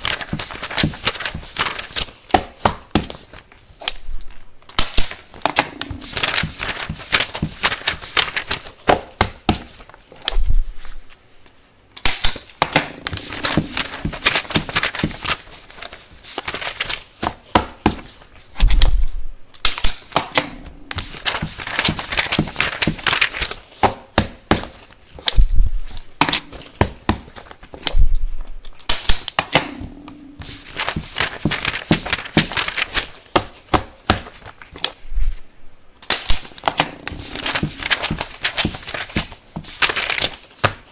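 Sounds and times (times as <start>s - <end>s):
paper rustling: 0.0s - 40.9s.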